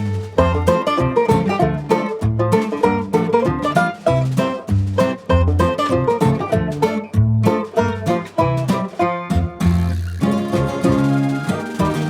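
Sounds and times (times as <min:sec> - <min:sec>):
upbeat plucked-string tune: 0:00.0 - 0:12.0.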